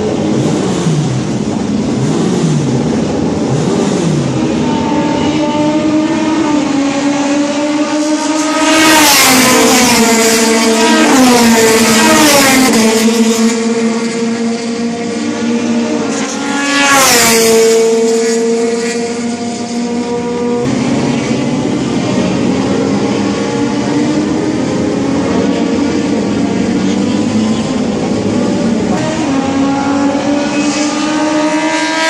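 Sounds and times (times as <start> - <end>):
race car engines: 0.0 - 32.0.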